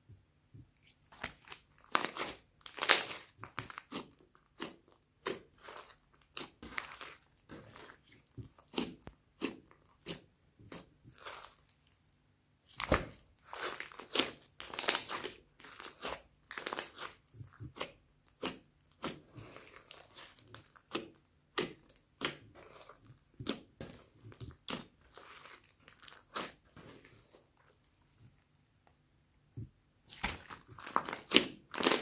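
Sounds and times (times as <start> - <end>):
slime crackling and popping: 1.1 - 11.8, 12.7 - 26.6, 30.1 - 32.0.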